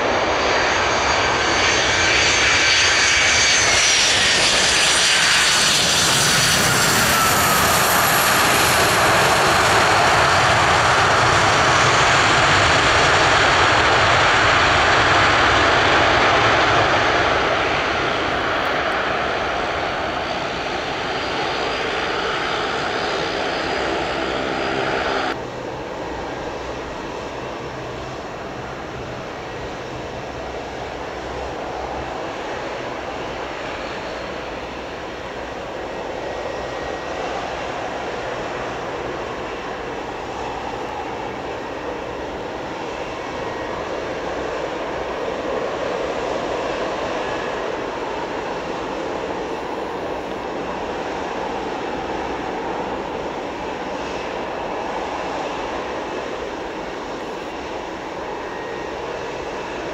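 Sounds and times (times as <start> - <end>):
airliner engines rushing: 0.0 - 59.9.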